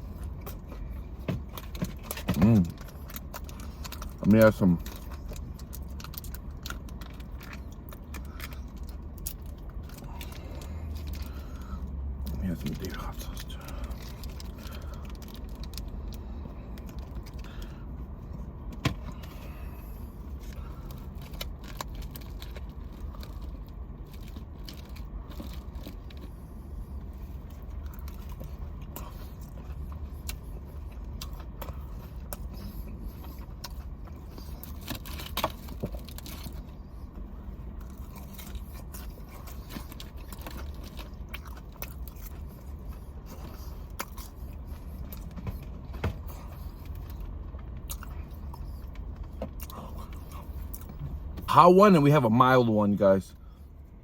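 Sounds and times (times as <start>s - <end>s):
person chewing food: 0.0s - 51.5s
steady low hum: 0.0s - 54.0s.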